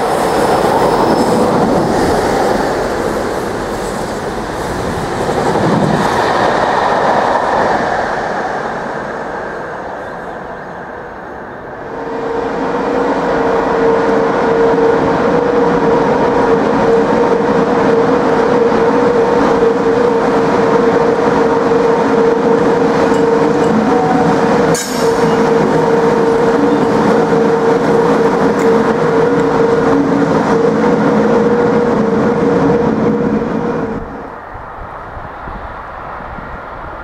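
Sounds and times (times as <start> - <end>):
electric locomotive hum: 0.0 - 37.0
wheels rumbling on rails: 0.0 - 37.0.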